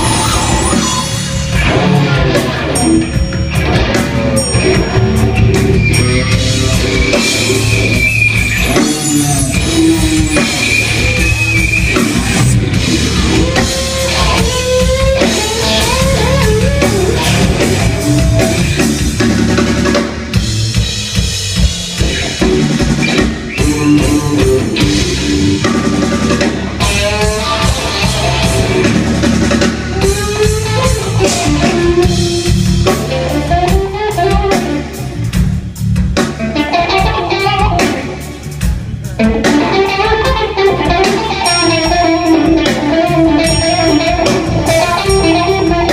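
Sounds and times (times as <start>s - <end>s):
electric guitar solo: 0.0s - 18.9s, 22.5s - 35.1s, 36.4s - 38.4s, 39.2s - 45.9s
bass guitar: 0.0s - 45.9s
drum kit: 0.0s - 45.9s.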